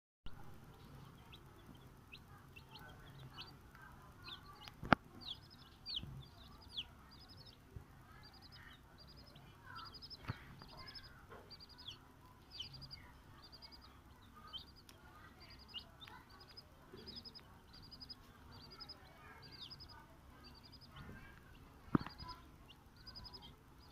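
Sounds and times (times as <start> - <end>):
chicks peeping: 0.3 - 23.9.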